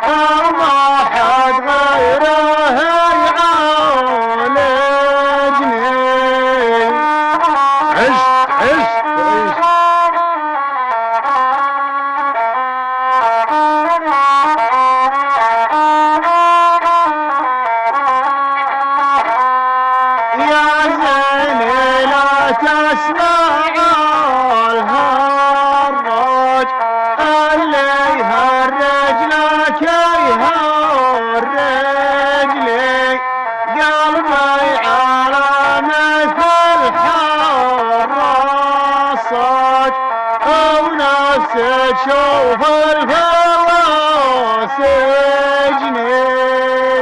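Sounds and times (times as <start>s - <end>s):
bowed fiddle melody: 0.0s - 47.0s.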